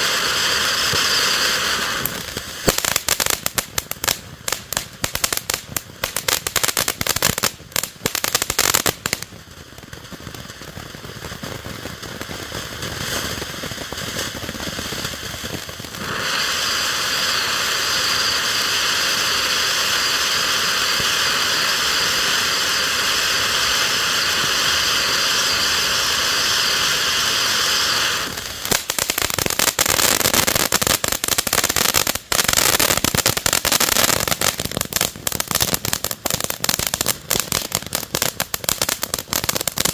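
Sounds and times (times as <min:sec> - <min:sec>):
firework crackling: 0:00.0 - 0:39.9
firework spray hiss: 0:00.0 - 0:39.9.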